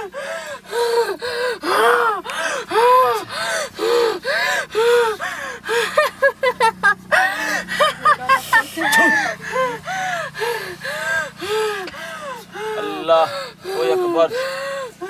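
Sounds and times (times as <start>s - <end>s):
woman gasping cries: 0.0s - 6.2s, 8.8s - 15.0s.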